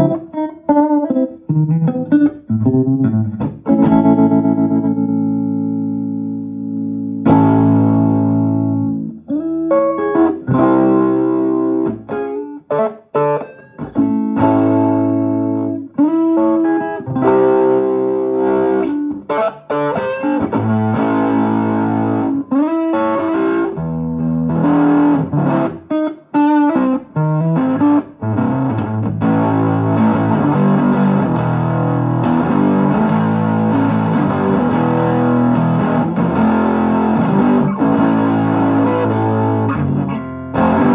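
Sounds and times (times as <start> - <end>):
electric guitar with light distortion: 0.0 - 40.9.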